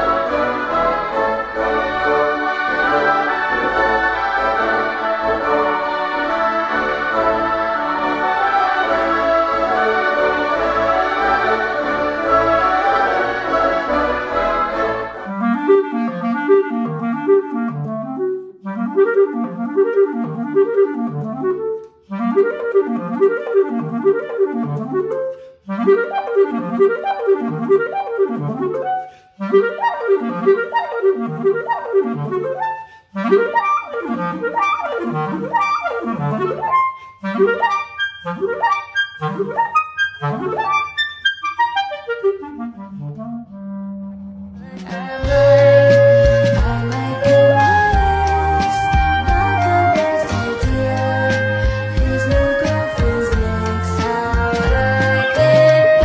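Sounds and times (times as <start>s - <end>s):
woodwind ensemble chord: 0.0s - 44.6s, 45.2s - 56.0s
clarinet arpeggio runs: 0.0s - 56.0s.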